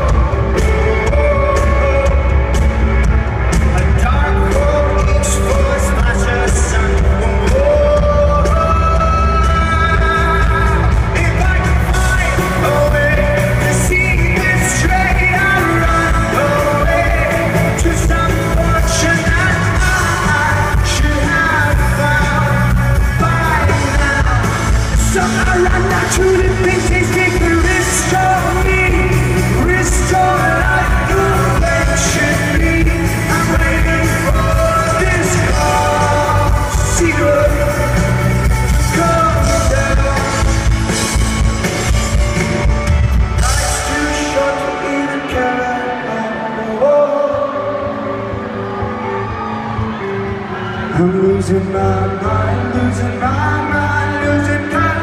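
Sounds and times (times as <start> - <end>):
crowd yelling: 0.0 - 55.0
lead singer singing: 0.0 - 55.0
live rock band playing: 0.0 - 55.0.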